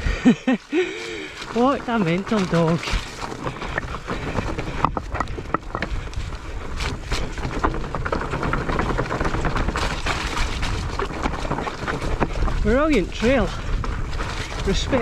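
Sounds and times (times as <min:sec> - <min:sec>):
bike tyres rumbling over dirt: 0:00.0 - 0:15.0
bike knocking and rattling: 0:00.2 - 0:15.0.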